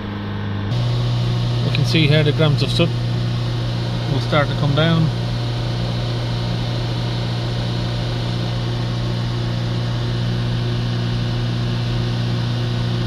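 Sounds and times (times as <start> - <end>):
diesel engine droning at raised revs: 0.0 - 13.0.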